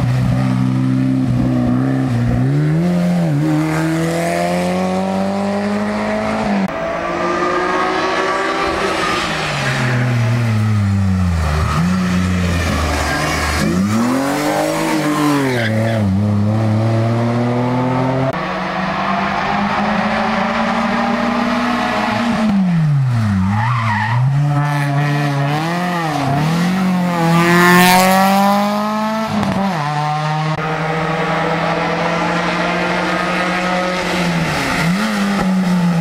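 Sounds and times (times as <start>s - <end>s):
racing cars passing at full throttle: 0.0s - 36.0s.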